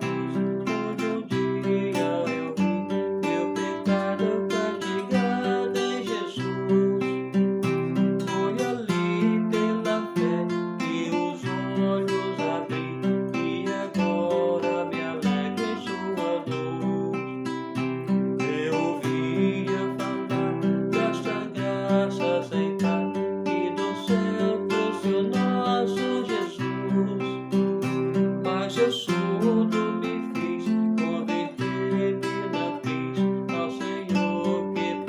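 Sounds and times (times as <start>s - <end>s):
acoustic guitar playing hymn tune: 0.0s - 35.0s.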